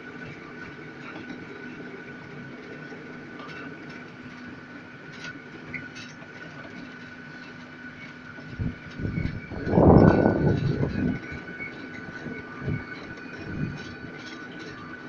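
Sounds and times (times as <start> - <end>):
ride train rumbling on track: 0.0 - 15.0.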